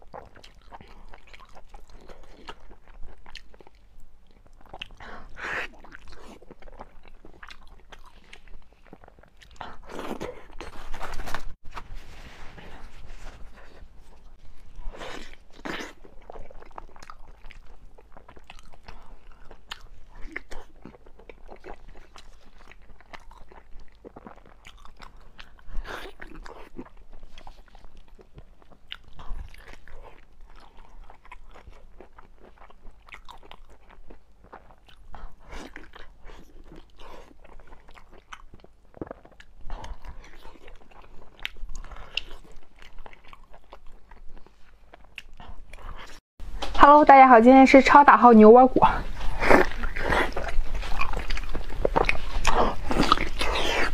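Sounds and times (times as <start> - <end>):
wet chewing and crunching: 0.0 - 11.6, 12.5 - 46.2, 49.0 - 53.9.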